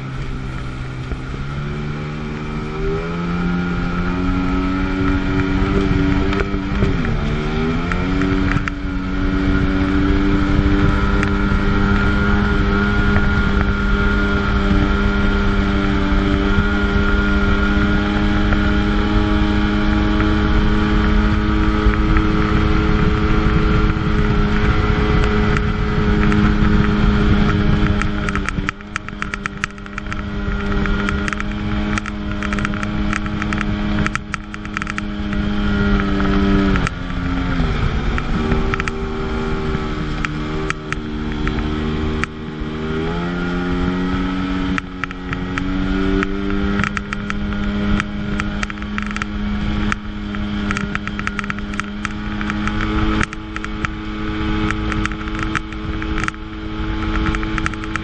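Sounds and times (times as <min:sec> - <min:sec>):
personal watercraft engine running: 0:00.0 - 0:58.0.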